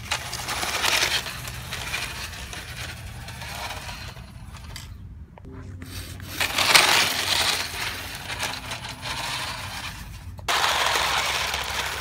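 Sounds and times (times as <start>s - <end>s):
toy snowmobile crunching on snow: 0.0s - 5.0s, 5.7s - 12.0s.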